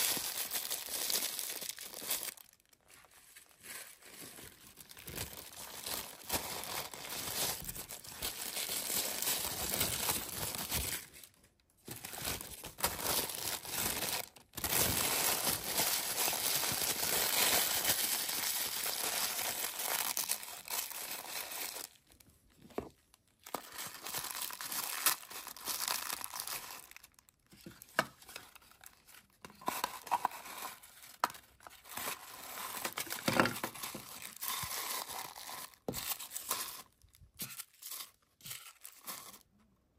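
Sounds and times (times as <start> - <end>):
tissue paper crinkling: 0.0 - 22.2, 23.4 - 27.2, 28.4 - 37.0.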